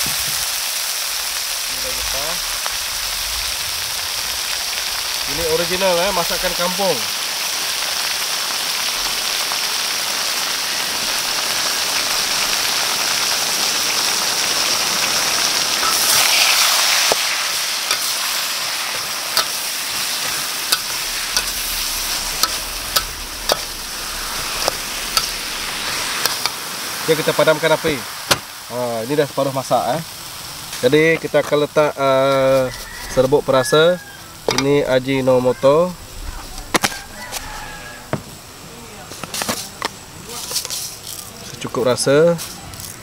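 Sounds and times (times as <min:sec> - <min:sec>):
food sizzling in a wok: 0:00.0 - 0:43.0.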